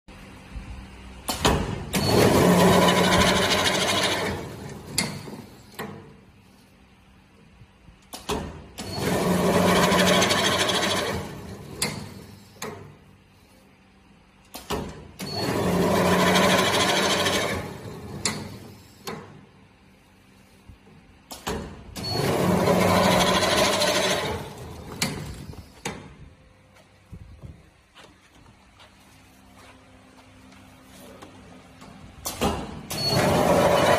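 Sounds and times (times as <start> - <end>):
low motor hum: 0.1 - 33.9.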